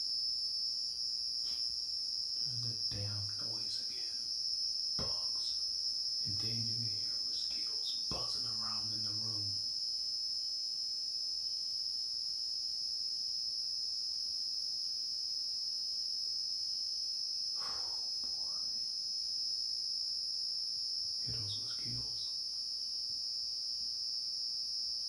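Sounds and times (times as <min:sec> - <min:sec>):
night insects droning: 0:00.0 - 0:25.0.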